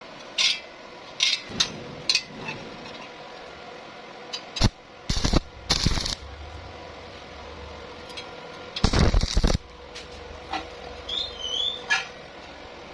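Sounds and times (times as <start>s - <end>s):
arc welding crackling: 1.3s - 12.7s.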